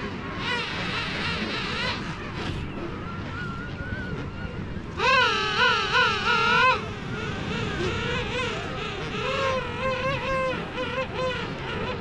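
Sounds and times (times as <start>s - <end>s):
distant penguins calling: 0.0s - 12.0s.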